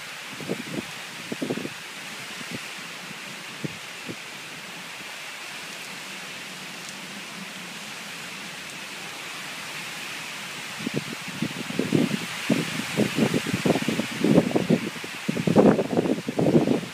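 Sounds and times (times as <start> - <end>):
rain falling: 0.0 - 16.9.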